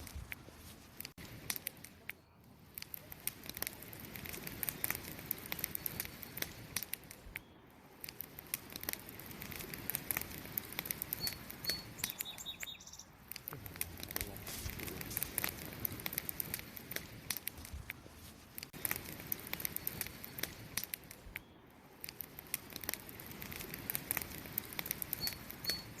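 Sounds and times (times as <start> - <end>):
fire crackling and popping: 0.0 - 26.0
steady hiss: 0.0 - 26.0.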